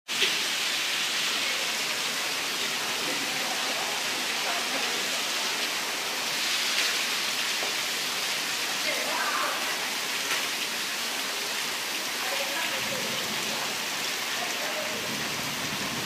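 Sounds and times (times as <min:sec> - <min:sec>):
heavy rain on paving: 0:00.1 - 0:16.0.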